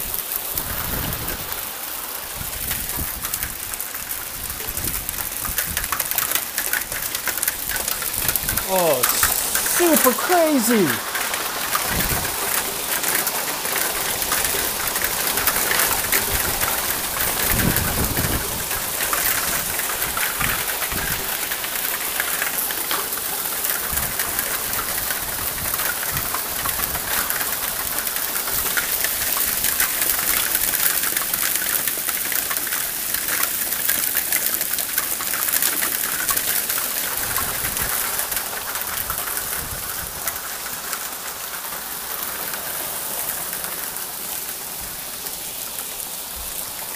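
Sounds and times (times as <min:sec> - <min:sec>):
hailstones pattering on ground: 0:00.0 - 0:46.9.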